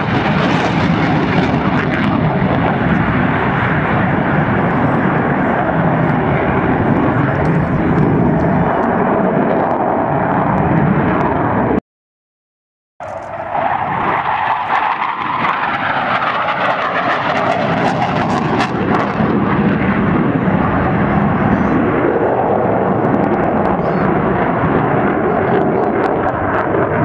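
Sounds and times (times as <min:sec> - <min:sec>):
aircraft engine rushing: 0:00.0 - 0:11.8, 0:13.0 - 0:27.0.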